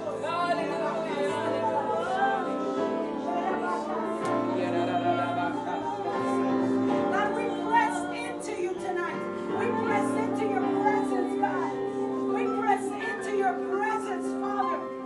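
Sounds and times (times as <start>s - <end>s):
person singing: 0.0s - 15.0s
sustained chords: 0.0s - 15.0s.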